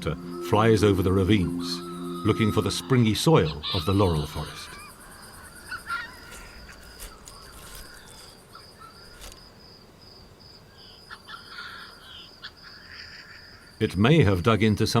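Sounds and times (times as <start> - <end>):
insect trill: 0.0 - 15.0.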